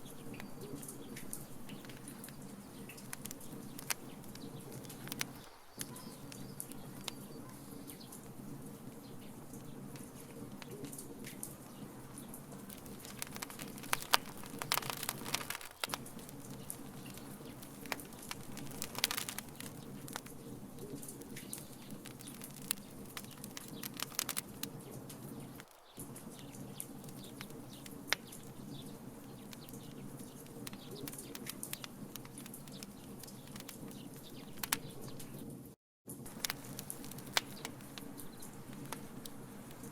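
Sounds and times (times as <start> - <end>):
wood fire crackling and popping: 0.0 - 39.9
flame rushing: 0.3 - 34.8, 36.2 - 39.9.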